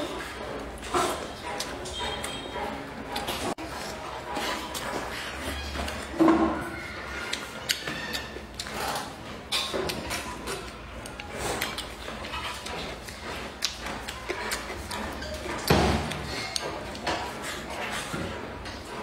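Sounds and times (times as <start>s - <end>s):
person chewing sticky meat: 0.0s - 19.0s.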